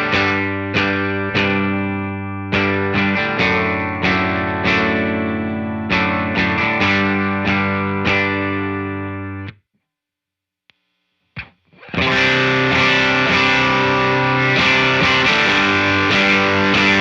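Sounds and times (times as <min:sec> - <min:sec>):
overdriven electric guitar chords: 0:00.0 - 0:09.6, 0:11.4 - 0:17.0.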